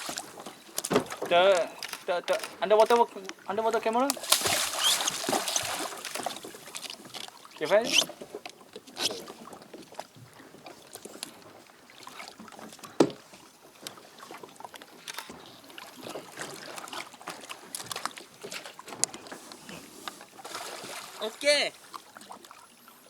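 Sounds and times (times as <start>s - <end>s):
water sounds: 0.0s - 23.0s.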